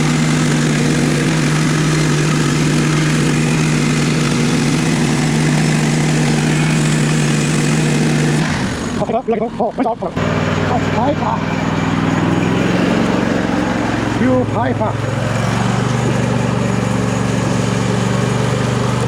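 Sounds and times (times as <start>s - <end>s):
sawmill engine hum: 0.0s - 19.0s.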